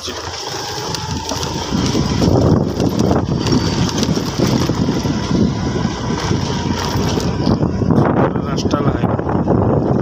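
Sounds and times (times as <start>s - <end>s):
motorbike engine running: 0.0s - 10.0s
wind rushing over microphone: 0.5s - 10.0s.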